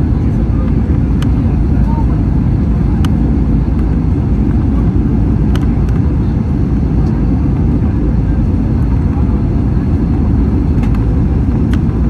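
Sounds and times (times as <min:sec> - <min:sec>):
jet cabin engine rumble: 0:00.0 - 0:12.0.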